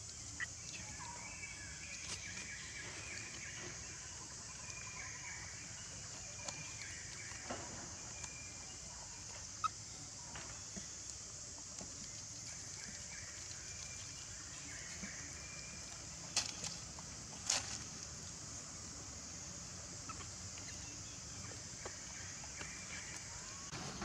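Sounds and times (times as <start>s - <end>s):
faint chirping calls: 0.0s - 23.7s.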